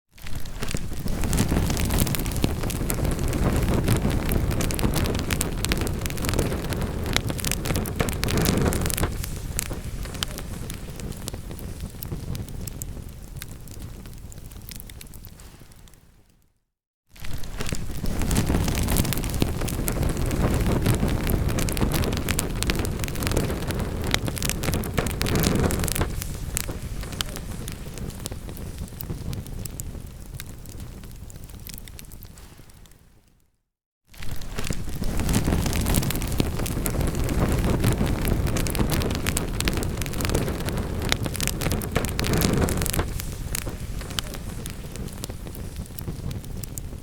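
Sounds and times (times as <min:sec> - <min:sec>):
wood fire crackling and popping: 0:00.2 - 0:16.4, 0:17.2 - 0:33.0, 0:34.1 - 0:47.0
low steady fire rush: 0:00.5 - 0:14.3, 0:17.5 - 0:31.8, 0:34.4 - 0:47.0.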